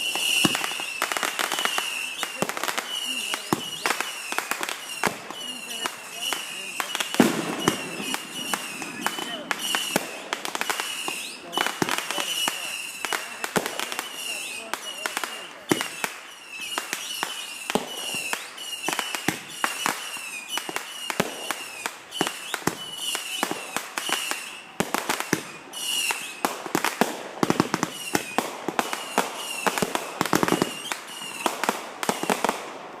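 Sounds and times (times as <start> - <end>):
firework whistles: 0.0 - 32.8
fireworks bangs and crackles: 0.0 - 33.0.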